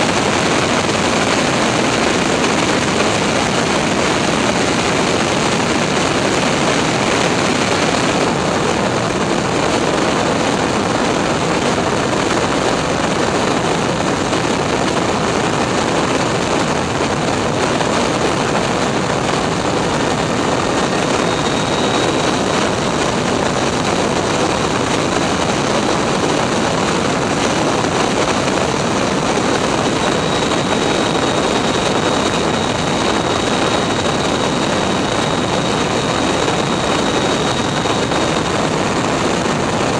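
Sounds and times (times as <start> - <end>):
faint high thin whine: 0.0 - 39.9
jet engine and airflow rush: 0.0 - 39.9.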